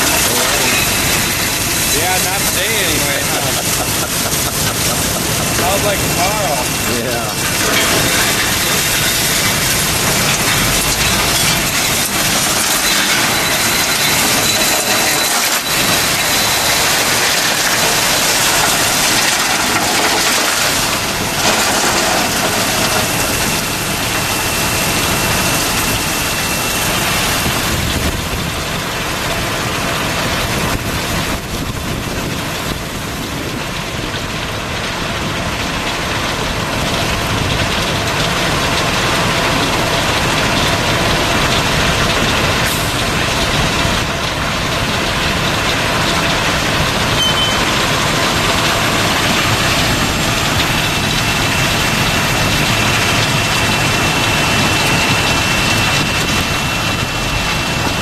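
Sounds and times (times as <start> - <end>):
gravelly material pouring: 0.0 - 58.0.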